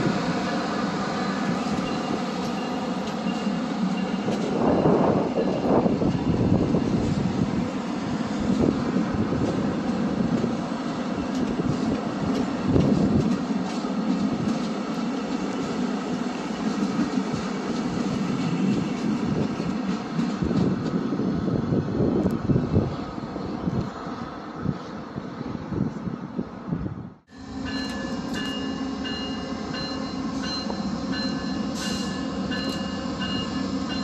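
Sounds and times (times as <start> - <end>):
passenger train rolling past: 0.0 - 34.0.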